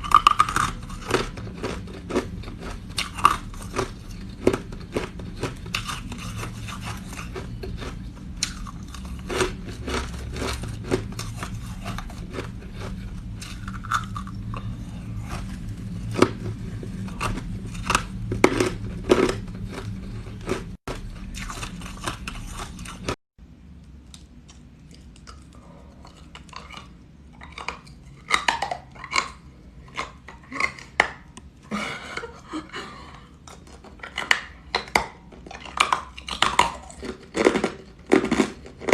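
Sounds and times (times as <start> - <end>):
chewing crunchy ice: 0.0 - 23.2, 24.2 - 31.3, 33.4 - 38.9
low background hum: 0.0 - 38.9.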